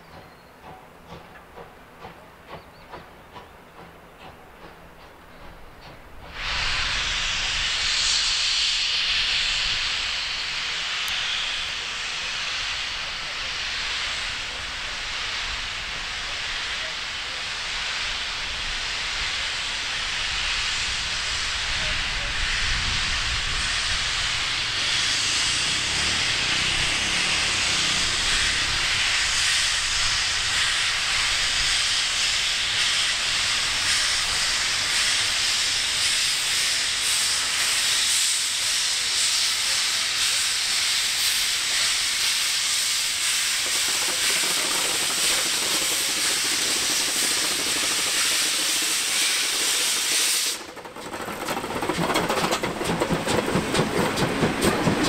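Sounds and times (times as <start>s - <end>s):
steam hissing: 0.0s - 55.0s.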